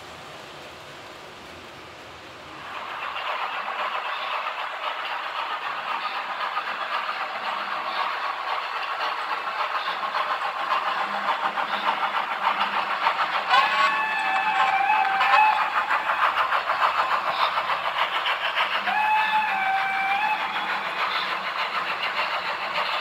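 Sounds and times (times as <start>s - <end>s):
model train wheels clattering: 2.6s - 23.0s.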